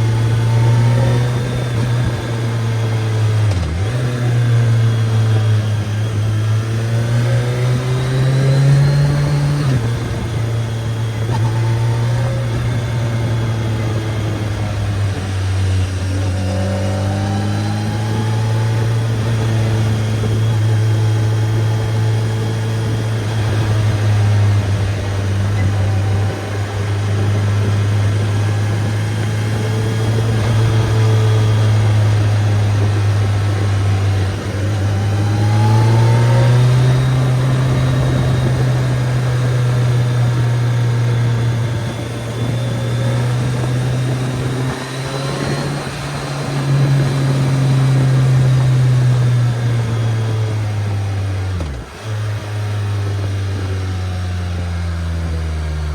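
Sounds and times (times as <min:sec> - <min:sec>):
motorcycle engine: 0:00.0 - 0:55.9.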